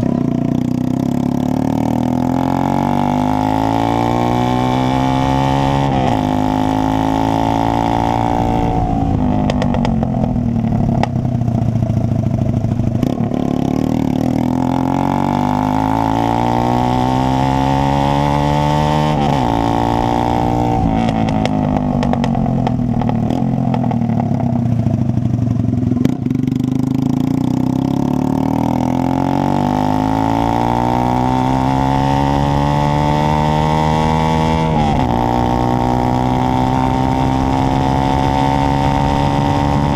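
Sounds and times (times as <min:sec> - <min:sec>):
loud motorcycle engine accelerating: 0:00.0 - 0:39.9.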